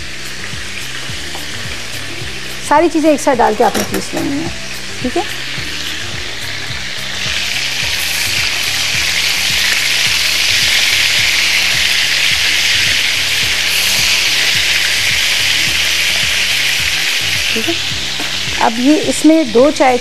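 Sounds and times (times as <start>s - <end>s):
meat sizzling in hot oil: 0.0s - 20.0s
soft background music: 0.0s - 20.0s.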